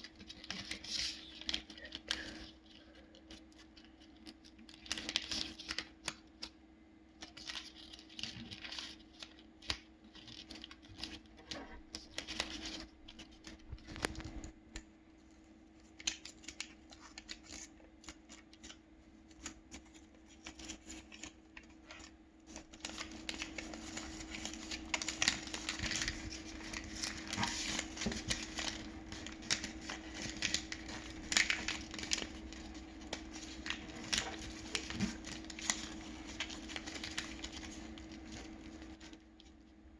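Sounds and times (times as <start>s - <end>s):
paper being folded and creased: 0.0s - 6.5s, 7.2s - 14.5s, 15.8s - 39.6s.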